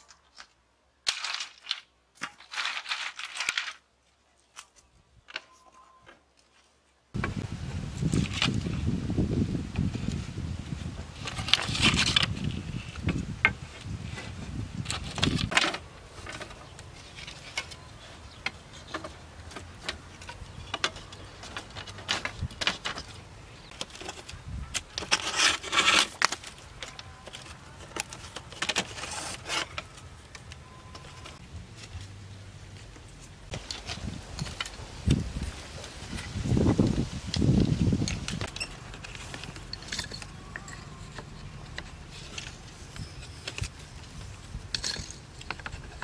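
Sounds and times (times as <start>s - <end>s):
bamboo slats clattering and scraping: 0.0s - 46.0s.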